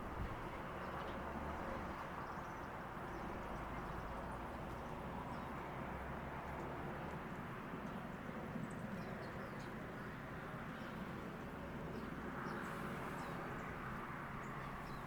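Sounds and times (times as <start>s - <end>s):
distant traffic hum: 0.0s - 15.0s.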